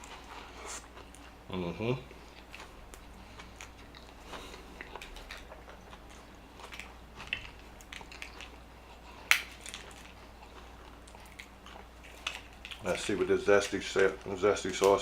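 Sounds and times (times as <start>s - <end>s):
chewing and biting food: 0.0s - 15.0s.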